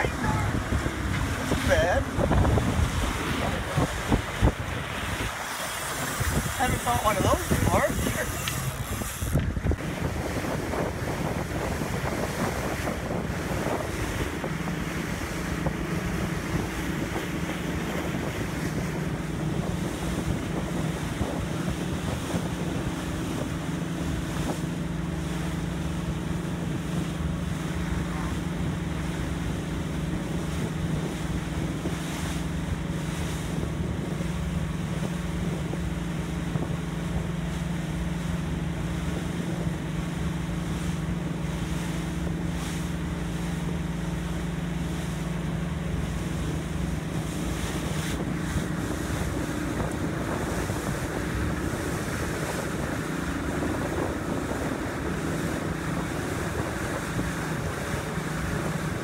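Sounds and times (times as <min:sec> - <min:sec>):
boat engine droning: 0:00.0 - 0:59.0
water rushing past hull: 0:00.0 - 0:59.0
wind buffeting microphone: 0:00.0 - 0:59.0.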